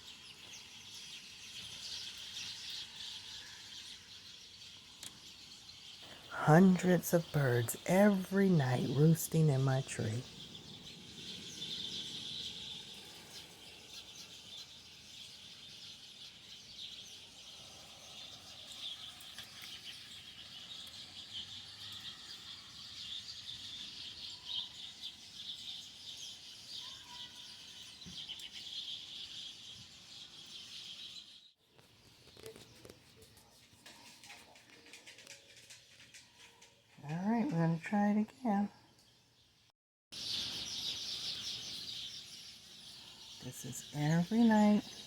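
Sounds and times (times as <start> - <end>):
flock of birds chirping: 0.0 - 45.0.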